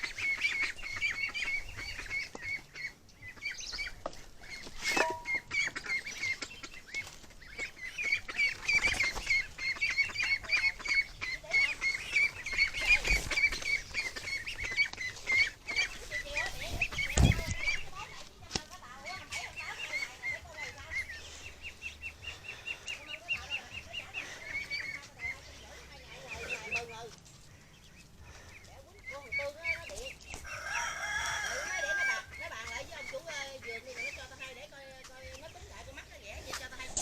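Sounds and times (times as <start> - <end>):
ducks quacking: 0.0 - 37.0.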